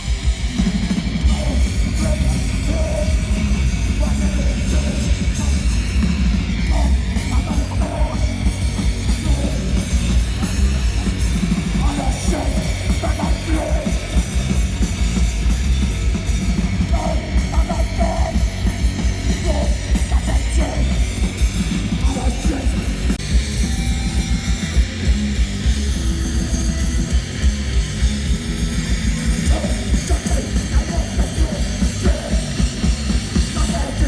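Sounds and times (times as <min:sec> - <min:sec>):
punk band playing live: 0:00.0 - 0:34.0.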